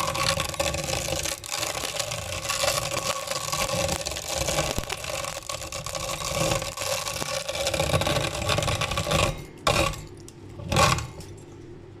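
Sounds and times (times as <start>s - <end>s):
meat grinder motor grinding pasta: 0.0s - 10.0s, 10.6s - 11.2s.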